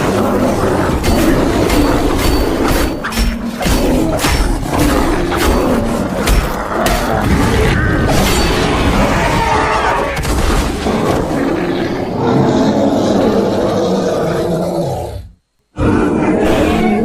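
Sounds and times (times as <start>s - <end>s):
growling animal calls: 0.0s - 17.0s.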